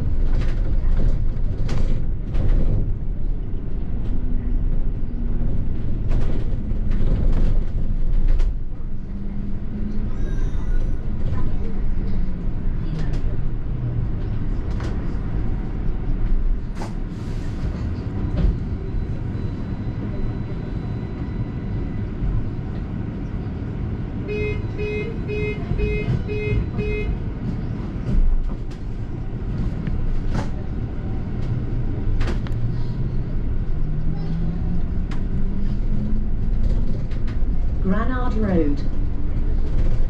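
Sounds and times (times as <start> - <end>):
bus engine rumble and road noise: 0.0 - 40.0.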